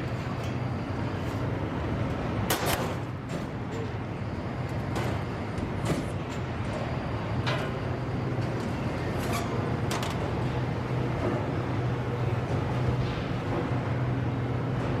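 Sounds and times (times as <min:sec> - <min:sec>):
industrial machine hum: 0:00.0 - 0:15.0.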